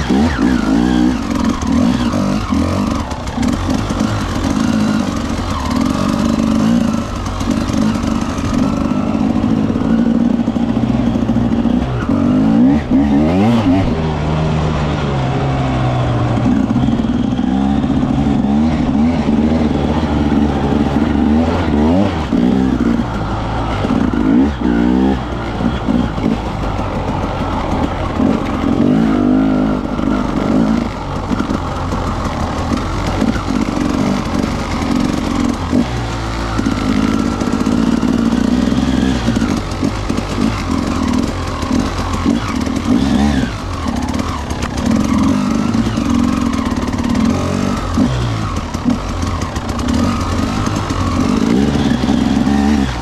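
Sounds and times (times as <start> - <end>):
two-stroke motorcycle engine revving: 0.0 - 53.0.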